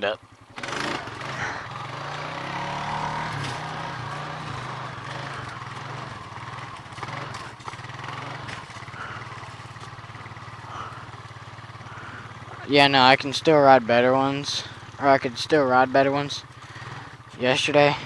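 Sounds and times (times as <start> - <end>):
small atv engine running: 0.0 - 18.0.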